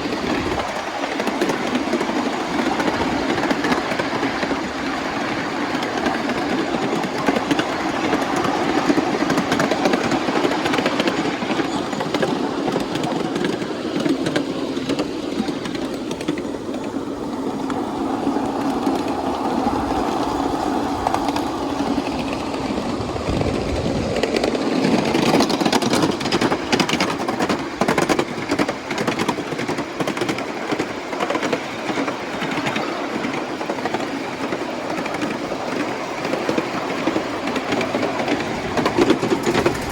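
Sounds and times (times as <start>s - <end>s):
miniature train rolling rumble: 0.0s - 39.9s
wheels clicking over rail joints: 0.0s - 39.9s.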